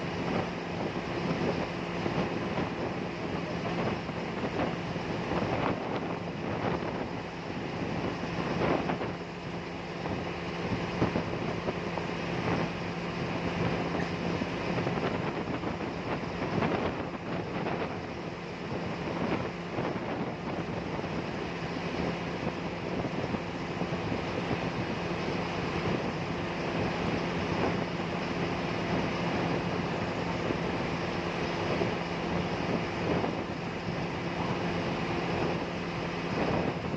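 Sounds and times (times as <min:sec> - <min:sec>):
wind gusting over microphone: 0:00.0 - 0:36.9.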